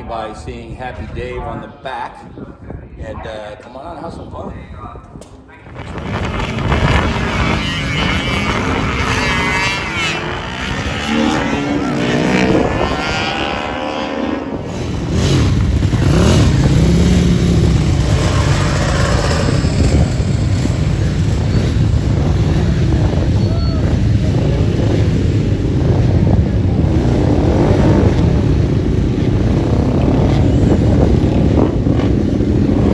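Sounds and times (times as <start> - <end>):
motorcycle engines revving: 5.7 - 32.9
deep loud engine: 5.8 - 32.9.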